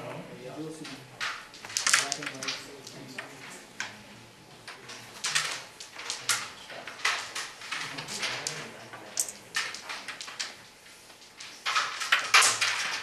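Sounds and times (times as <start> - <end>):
carrom pieces sliding and clicking: 0.9 - 4.0, 4.6 - 13.0.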